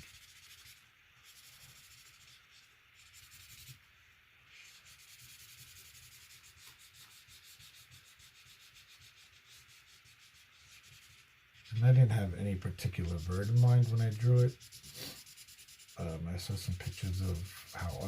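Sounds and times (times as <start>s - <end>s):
colouring strokes on paper: 0.0s - 3.8s, 4.5s - 18.0s.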